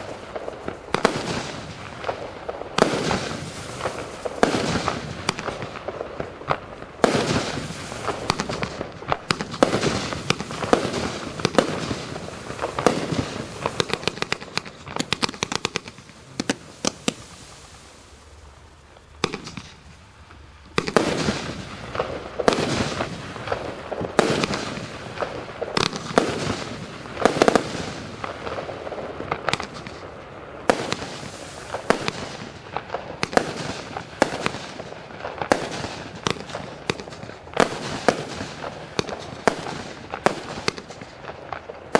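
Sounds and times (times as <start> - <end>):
firework shots launching and bursting: 0.0 - 18.2, 19.0 - 41.9.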